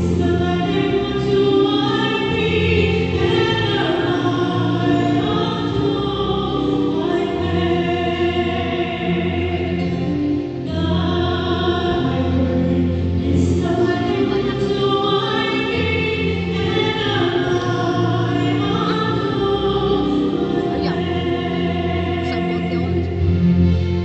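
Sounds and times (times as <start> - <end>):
choir singing in harmony: 0.0 - 23.3.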